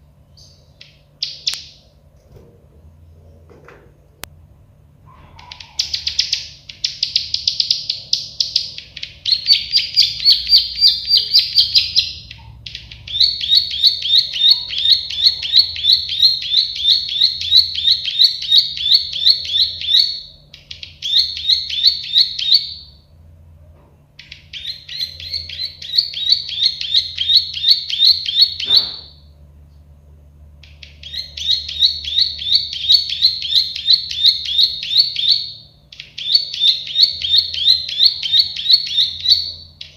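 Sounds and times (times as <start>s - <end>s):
bird singing rapid high notes: 5.4s - 23.0s, 24.2s - 29.3s, 30.6s - 39.9s.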